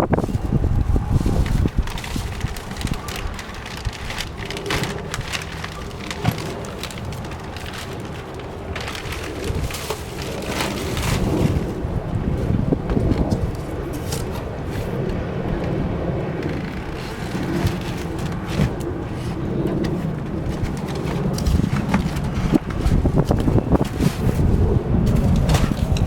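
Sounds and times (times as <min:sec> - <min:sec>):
packaging rustling and crackling: 0:00.2 - 0:15.2, 0:16.4 - 0:26.0.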